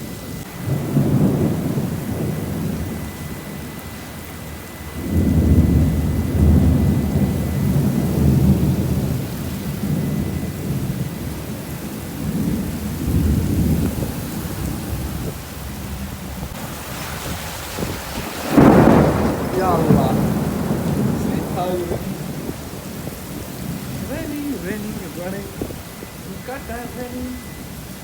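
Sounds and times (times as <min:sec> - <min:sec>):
rolling thunder: 0:00.0 - 0:28.0
steady rain: 0:00.0 - 0:28.0.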